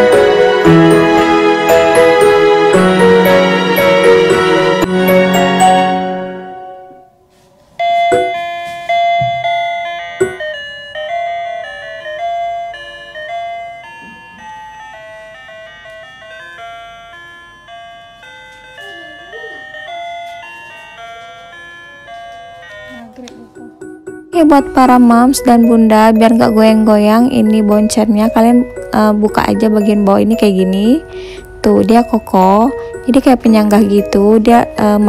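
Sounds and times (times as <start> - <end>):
bell-like electronic tune: 0.0 - 7.1, 7.8 - 35.0.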